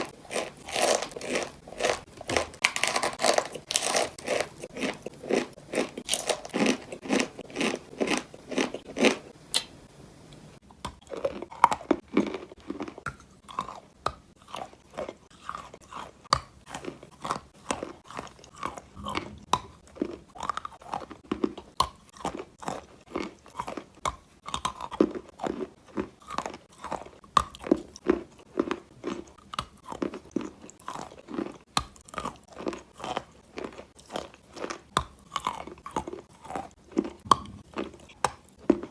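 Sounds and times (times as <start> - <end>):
person chewing chalk: 0.0 - 9.7, 10.6 - 38.9.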